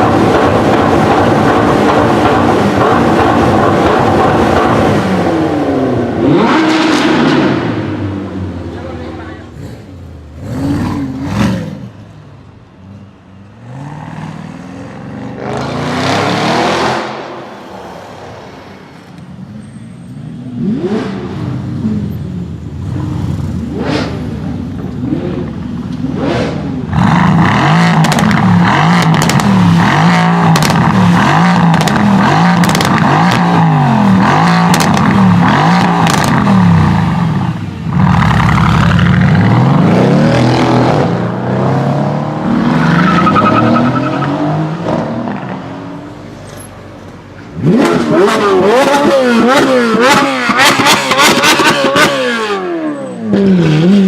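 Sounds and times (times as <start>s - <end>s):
high-performance car engines: 0.0s - 54.0s.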